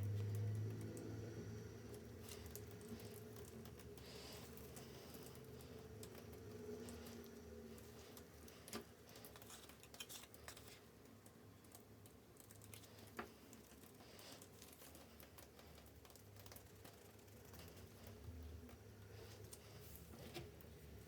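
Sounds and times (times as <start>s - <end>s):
faint clicks and taps: 1.9s - 21.0s.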